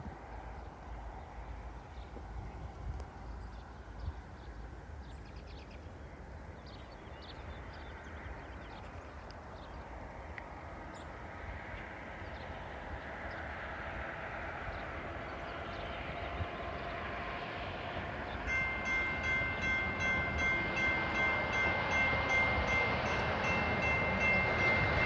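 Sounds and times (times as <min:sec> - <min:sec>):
freight train rumble: 0:00.0 - 0:25.0.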